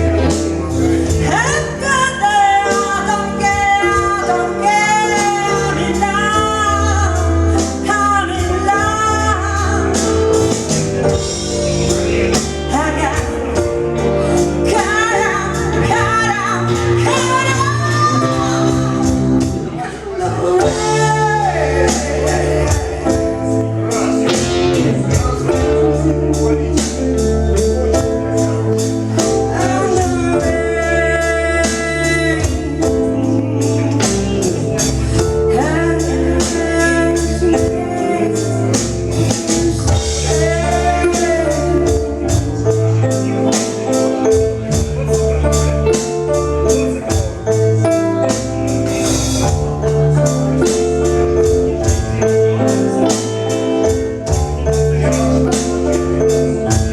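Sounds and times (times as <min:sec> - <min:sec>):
person singing: 0:00.0 - 0:56.9
sustained instrumental chords: 0:00.0 - 0:56.9.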